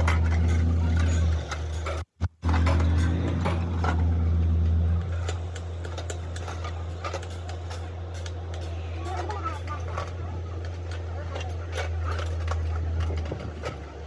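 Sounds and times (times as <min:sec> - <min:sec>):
metallic clicks and knocks: 0:00.0 - 0:14.0
workshop machinery humming: 0:00.0 - 0:14.0.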